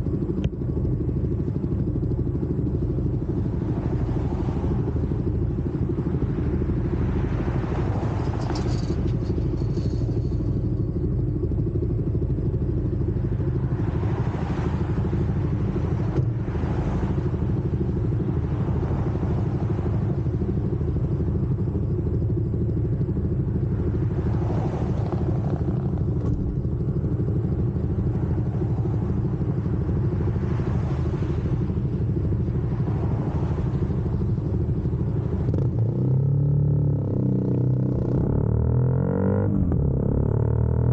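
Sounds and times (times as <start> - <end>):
cars passing by: 0.0 - 40.9
motorcycle engine idling: 0.0 - 40.9.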